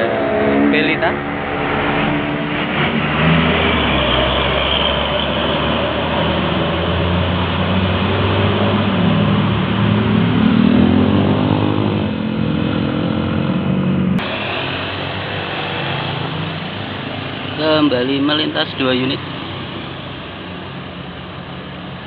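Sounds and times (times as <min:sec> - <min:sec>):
bus diesel engine passing: 0:00.0 - 0:22.0.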